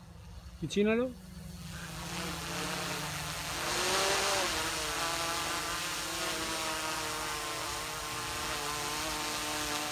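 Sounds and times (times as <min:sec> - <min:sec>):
drone propellers buzzing: 0:00.0 - 0:09.9.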